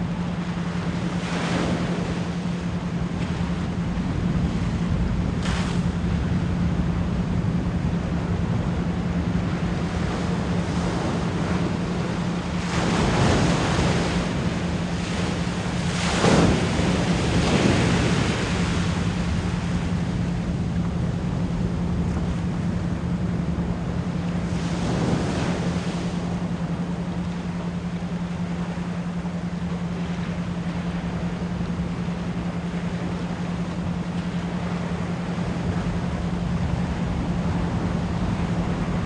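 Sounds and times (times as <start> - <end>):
ocean surf washing in: 0.0 - 39.0.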